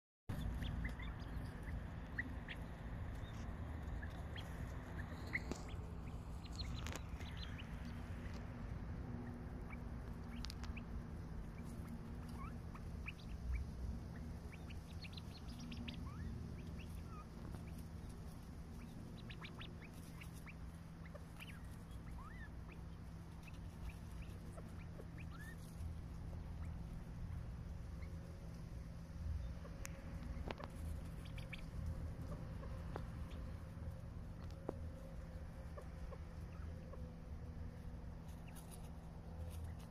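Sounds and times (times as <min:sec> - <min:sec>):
low rumble: 0:00.3 - 0:39.9
quails pecking clicks: 0:00.3 - 0:39.9
soft bird chirps: 0:00.3 - 0:39.9.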